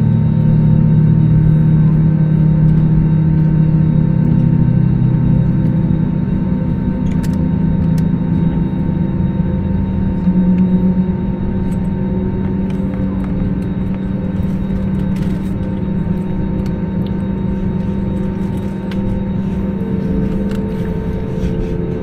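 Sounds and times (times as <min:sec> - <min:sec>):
aircraft cabin engine hum: 0:00.0 - 0:22.0.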